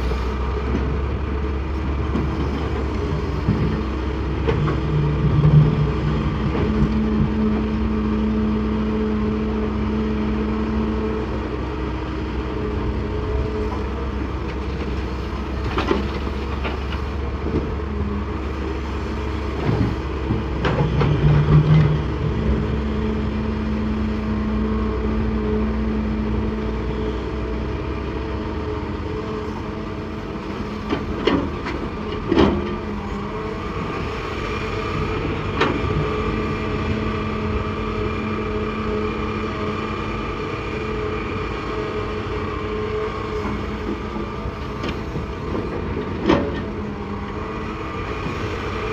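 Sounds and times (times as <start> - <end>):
excavator engine under load: 0.0 - 48.9.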